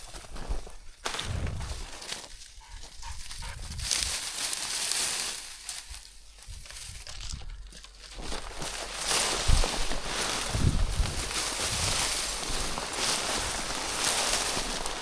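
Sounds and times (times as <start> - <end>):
dry reeds brushing and rustling: 0.0 - 15.0
footsteps crunching through snow: 0.0 - 15.0.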